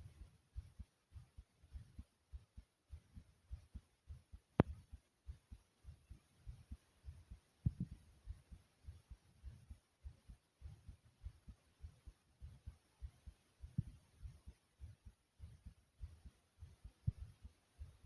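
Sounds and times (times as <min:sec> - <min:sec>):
fast heartbeat thumps: 0:00.0 - 0:18.0.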